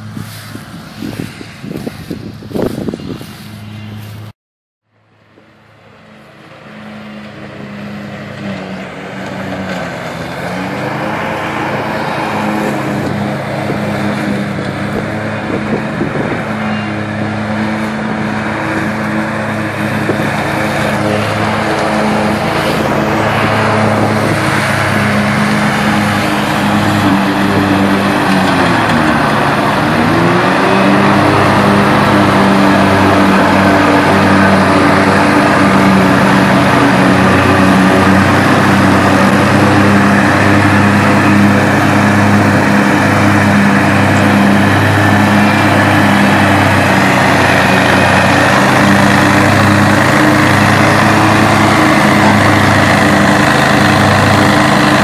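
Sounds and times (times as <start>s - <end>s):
mower engine running: 0.0s - 4.3s, 4.9s - 55.0s.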